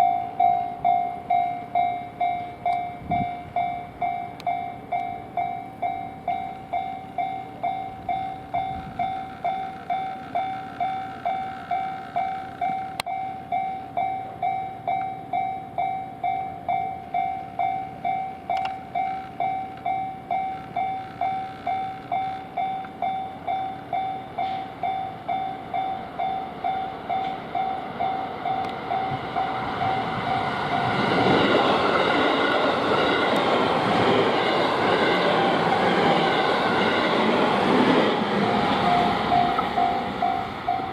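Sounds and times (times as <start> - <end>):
level crossing warning bell: 0.0 - 40.9
train passing: 0.0 - 40.9.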